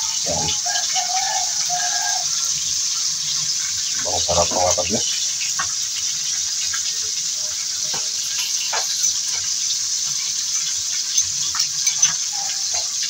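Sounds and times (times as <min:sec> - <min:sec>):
fish sizzling in hot oil: 0:00.0 - 0:13.0
oil crackling and popping: 0:00.0 - 0:13.0.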